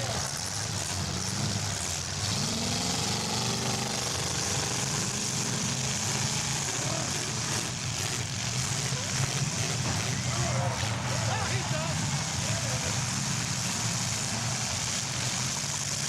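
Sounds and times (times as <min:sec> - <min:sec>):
car engines revving: 0:00.0 - 0:16.0
steady hiss: 0:03.0 - 0:16.0.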